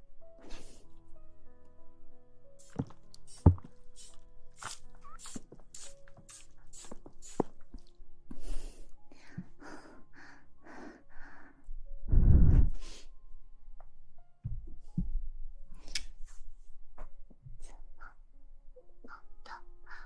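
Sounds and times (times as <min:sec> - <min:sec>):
quiet background music: 0:00.0 - 0:20.0.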